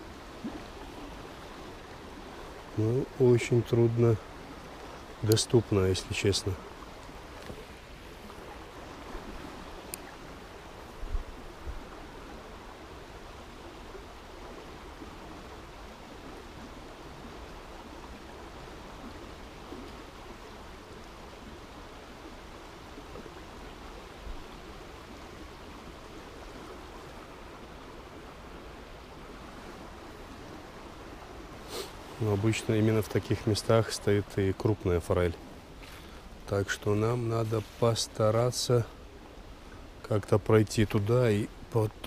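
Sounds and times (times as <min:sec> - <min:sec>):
river water rushing over stones: 0:00.0 - 0:42.0.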